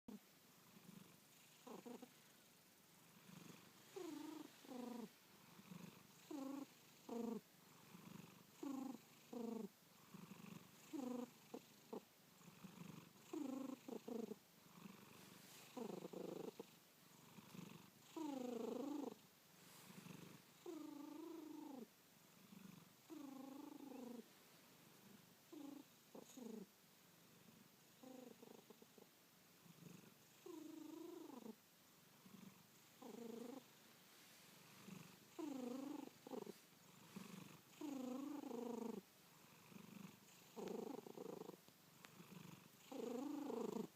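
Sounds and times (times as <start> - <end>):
cat snoring: 0.1 - 2.4, 3.0 - 24.4, 25.0 - 31.6, 32.2 - 33.8, 34.6 - 43.9.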